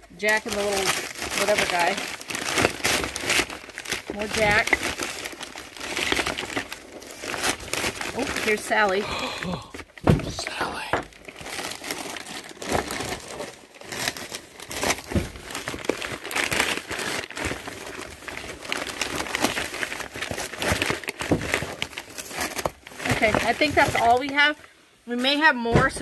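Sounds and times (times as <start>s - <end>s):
packing paper rustling and crinkling: 0.0s - 26.0s.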